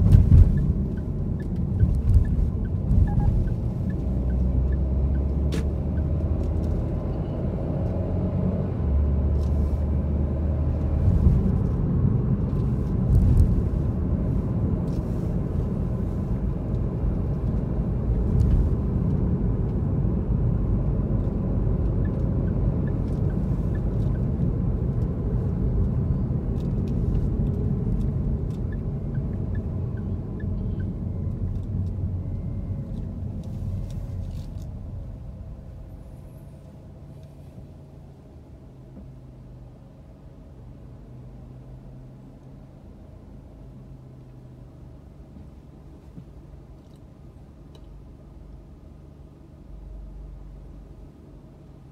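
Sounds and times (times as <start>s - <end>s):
car road and engine rumble: 0.0s - 51.9s.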